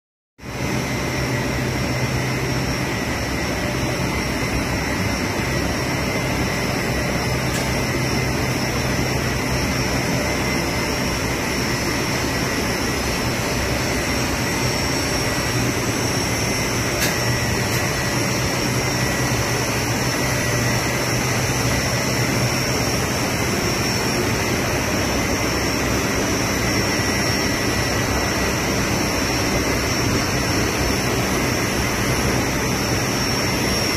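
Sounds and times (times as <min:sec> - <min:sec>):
machine drone with low hum: 0:00.4 - 0:33.9
high whines of rollers: 0:00.5 - 0:33.9.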